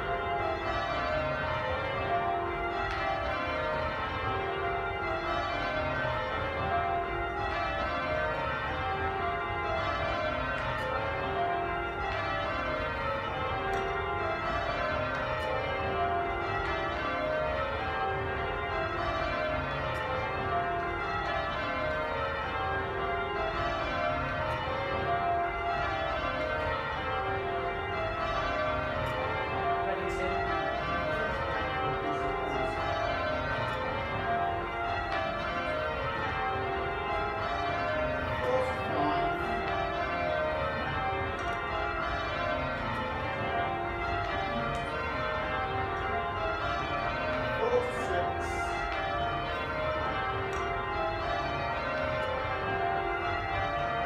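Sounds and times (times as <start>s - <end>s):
church bells ringing in peal: 0.0s - 54.0s.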